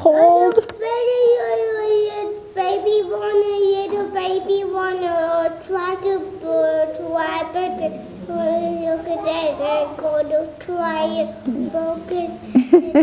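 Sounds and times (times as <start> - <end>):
children singing held notes: 0.8 - 13.0.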